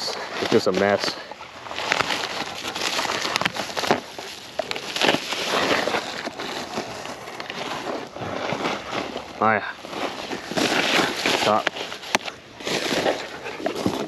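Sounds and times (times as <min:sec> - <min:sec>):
packaging rustling and crackling: 0:00.0 - 0:14.0.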